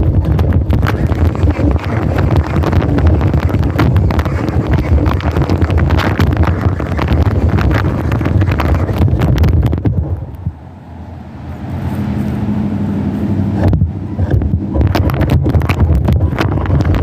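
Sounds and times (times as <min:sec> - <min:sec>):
rc car rattling rumble: 0:00.0 - 0:10.6, 0:13.5 - 0:17.0
wind buffeting microphone: 0:00.0 - 0:17.0.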